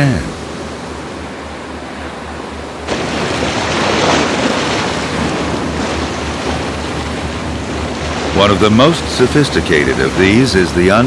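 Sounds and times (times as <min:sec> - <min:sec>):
low pulsing hum: 0:00.0 - 0:11.0
rushing sea water: 0:00.0 - 0:11.0.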